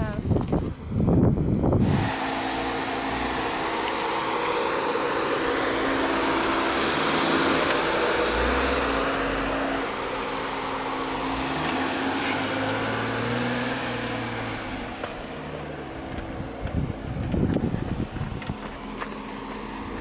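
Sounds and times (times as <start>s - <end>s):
steady rushing noise: 0.0s - 18.8s
engine running at low revs: 0.0s - 20.0s.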